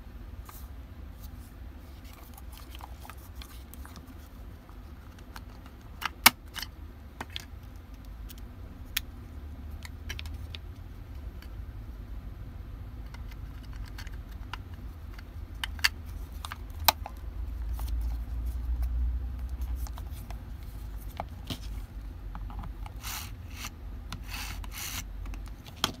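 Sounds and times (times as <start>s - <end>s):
steady low rumble: 0.0s - 26.0s
handling clicks and rubbing: 0.4s - 11.6s, 13.0s - 26.0s.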